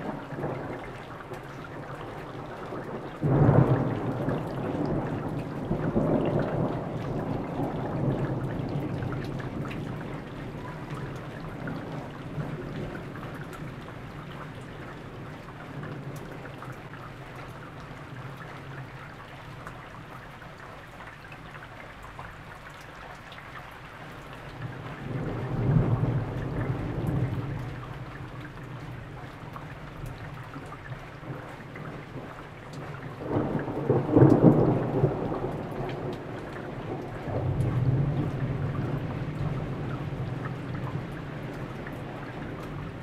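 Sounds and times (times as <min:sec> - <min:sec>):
thunder rumbling: 0:00.0 - 0:16.6, 0:24.7 - 0:43.0
steady rain falling: 0:00.0 - 0:43.0.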